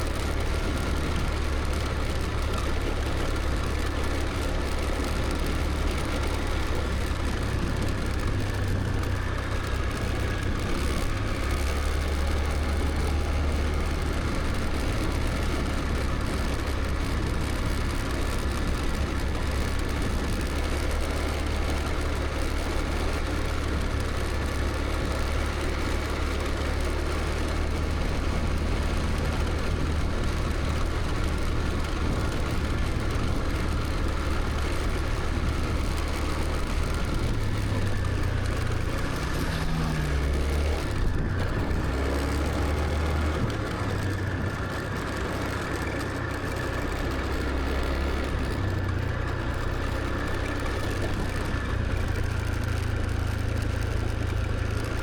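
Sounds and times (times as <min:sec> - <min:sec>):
road and wind noise: 0:00.0 - 0:55.0
scooter engine running: 0:00.0 - 0:55.0.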